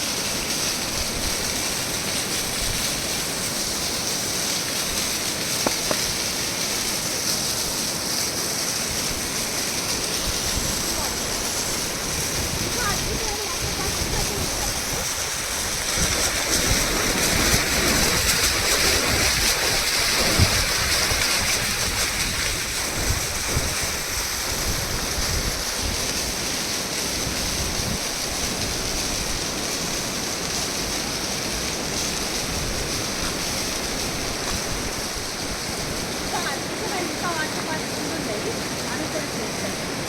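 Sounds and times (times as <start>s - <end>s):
waterfall pouring and splashing: 0.0s - 40.0s.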